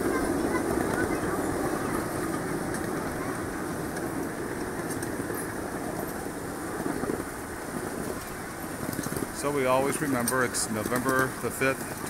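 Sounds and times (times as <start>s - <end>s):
train wheels rolling on track: 0.0s - 12.0s.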